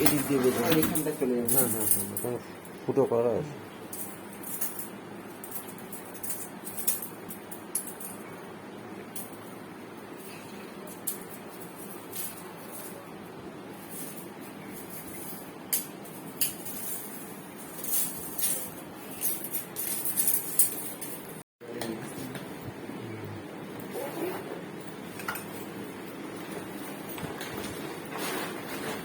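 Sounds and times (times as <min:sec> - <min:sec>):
steady room hum: 0:00.0 - 0:29.0.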